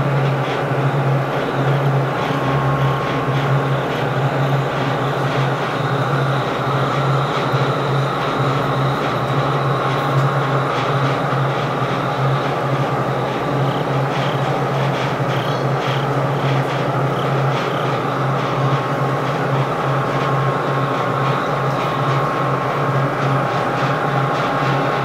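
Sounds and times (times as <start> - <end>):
loud mechanical rumble: 0.0 - 25.0.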